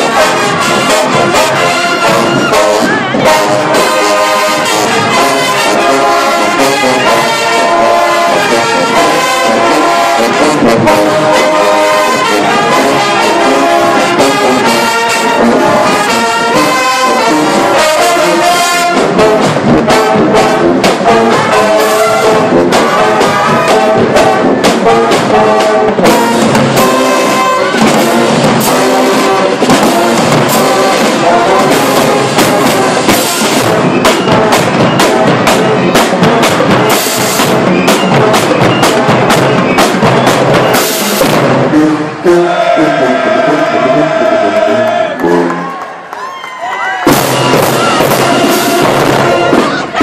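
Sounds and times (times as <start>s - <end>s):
drums beating: 0.0s - 45.8s, 46.7s - 50.0s
marching band brass: 0.0s - 50.0s.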